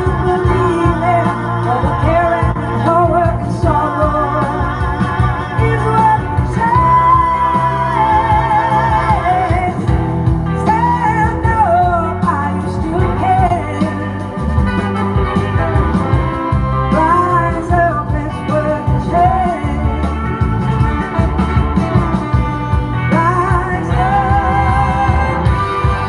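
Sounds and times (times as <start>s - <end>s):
woman singing: 0.0s - 14.6s, 16.8s - 20.7s, 23.0s - 26.0s
blues-rock band playing: 0.0s - 26.0s.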